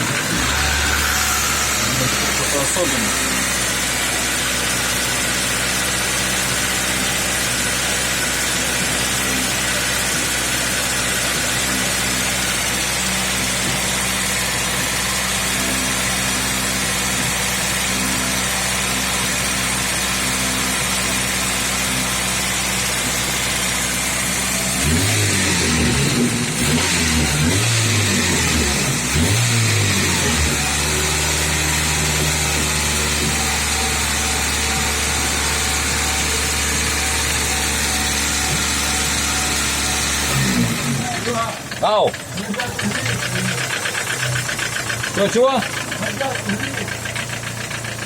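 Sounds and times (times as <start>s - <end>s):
car engine idling with knock: 0.0s - 48.0s.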